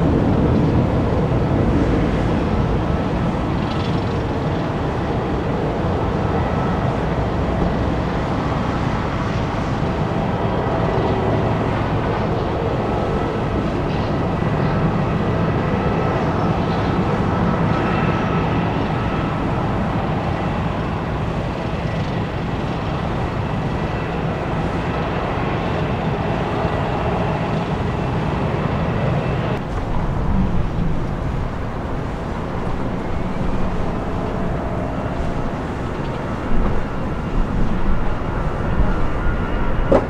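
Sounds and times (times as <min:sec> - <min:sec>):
faint high engine whine: 0:00.0 - 0:40.0
jet engines rumbling: 0:00.0 - 0:40.0.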